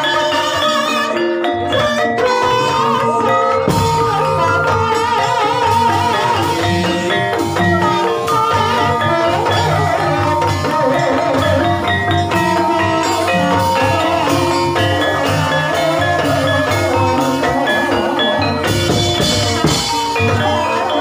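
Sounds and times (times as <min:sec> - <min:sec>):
tuned mallet percussion: 0:00.0 - 0:21.0
drum beat: 0:01.8 - 0:21.0.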